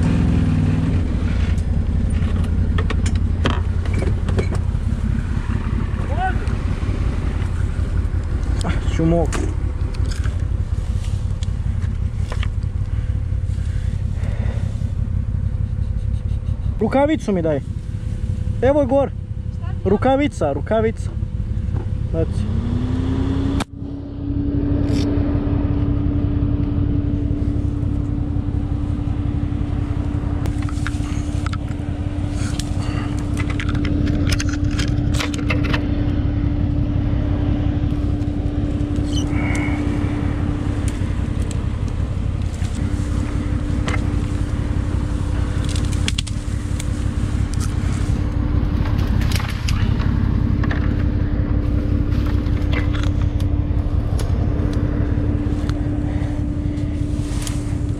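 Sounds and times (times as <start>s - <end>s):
branches crackling and snapping: 0.0s - 15.5s, 26.6s - 57.9s
engine running with whine: 0.0s - 57.9s.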